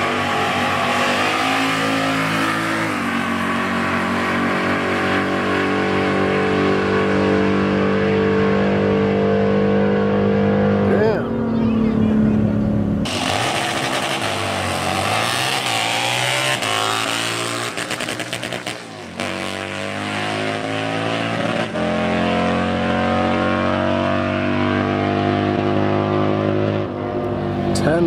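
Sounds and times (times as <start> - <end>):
motorcycle engine at full throttle: 0.0 - 28.0.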